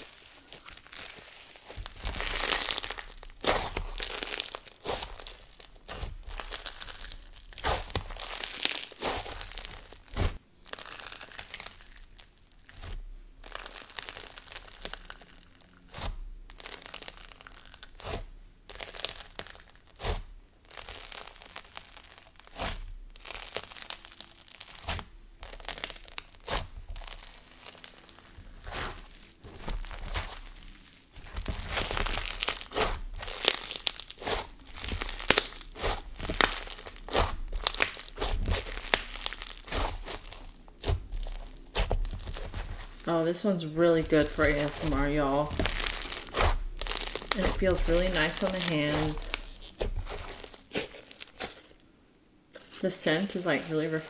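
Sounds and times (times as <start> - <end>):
slime squished by hand crackling: 0.0 - 43.1, 44.0 - 51.9, 52.5 - 54.0.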